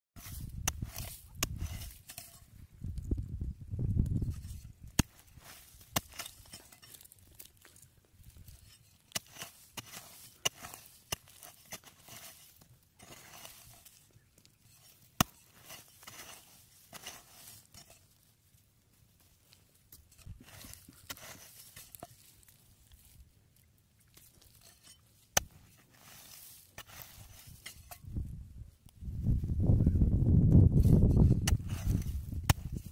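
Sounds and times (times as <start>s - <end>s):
scuffs and rustles in dry soil: 0.2s - 32.9s.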